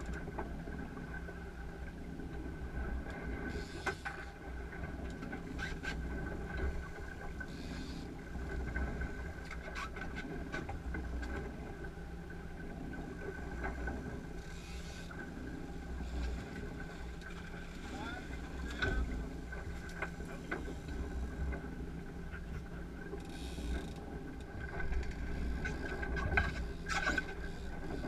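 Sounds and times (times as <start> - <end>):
outboard motors running: 0.0 - 28.0.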